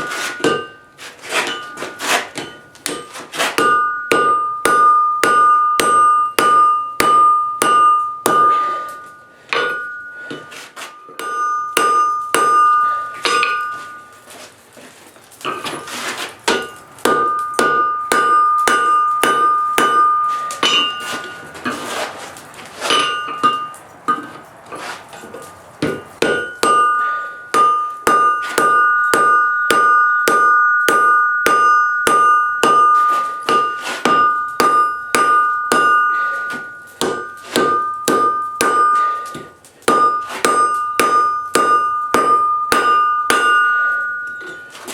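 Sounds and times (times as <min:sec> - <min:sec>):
hammer striking anvil: 0:00.0 - 0:14.2, 0:15.4 - 0:21.7, 0:22.8 - 0:24.4, 0:25.8 - 0:44.9.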